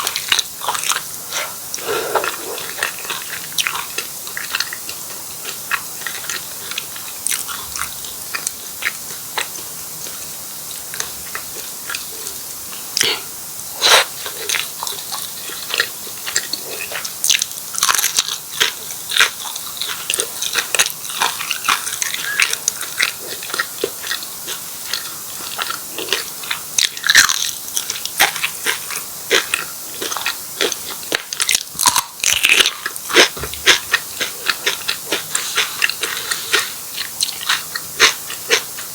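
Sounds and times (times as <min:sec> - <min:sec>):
crunchy pastry chewing: 0:00.1 - 0:38.9.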